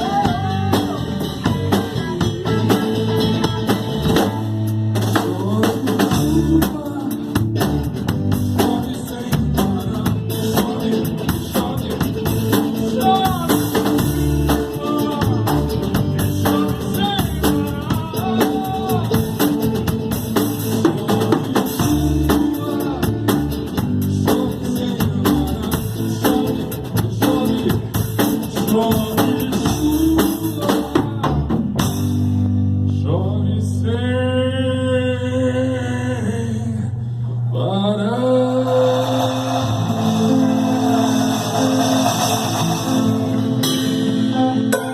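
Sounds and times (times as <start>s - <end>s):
drum kit beat: 0.0s - 32.4s, 38.7s - 44.9s
bass: 0.0s - 44.9s.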